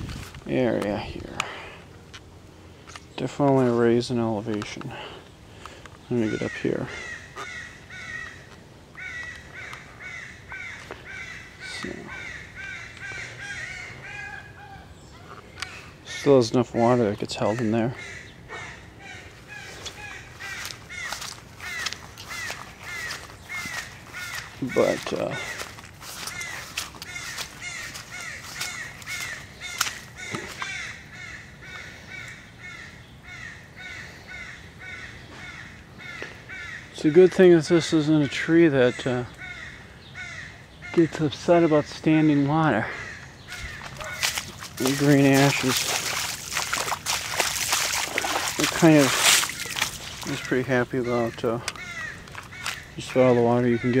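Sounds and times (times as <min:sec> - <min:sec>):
bird calling: 0:04.6 - 0:54.0
crows cawing: 0:04.9 - 0:54.0.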